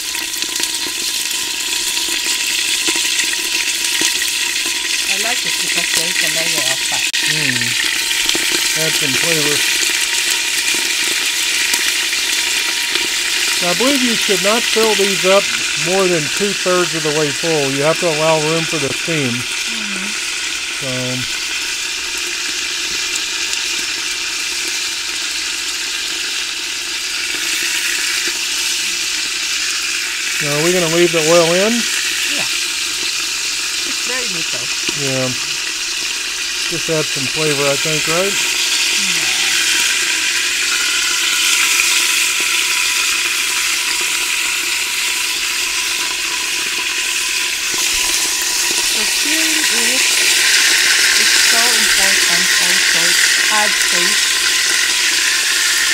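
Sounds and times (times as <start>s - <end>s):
meat sizzling in hot fat: 0.0s - 55.9s.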